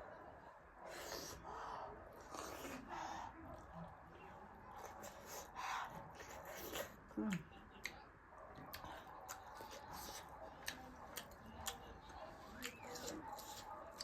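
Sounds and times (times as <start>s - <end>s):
person chewing food: 0.8s - 14.0s.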